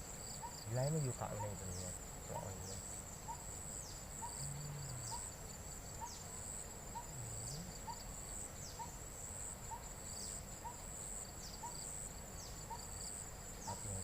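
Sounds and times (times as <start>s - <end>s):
insect trill: 0.0s - 14.0s
short insect call: 0.0s - 14.0s.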